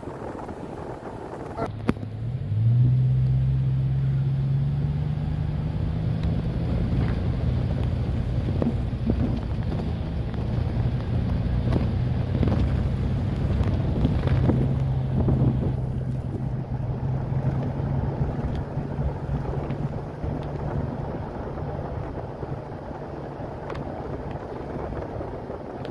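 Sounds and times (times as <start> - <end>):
diesel locomotive engine drone: 0.0 - 25.9.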